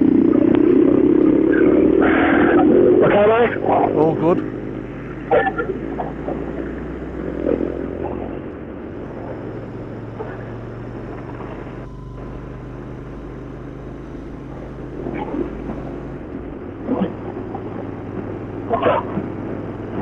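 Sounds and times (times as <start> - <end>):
motorbike engine running: 0.0 - 20.0
road and wind noise: 0.0 - 20.0.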